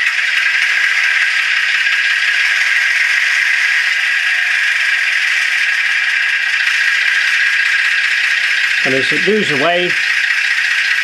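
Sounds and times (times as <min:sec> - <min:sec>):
simulated diesel engine idling: 0:00.0 - 0:11.0.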